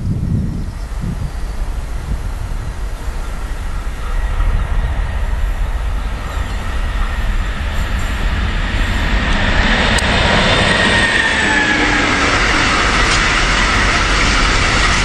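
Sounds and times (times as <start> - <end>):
freight train passing: 0.0 - 15.0
high whine: 0.0 - 15.0.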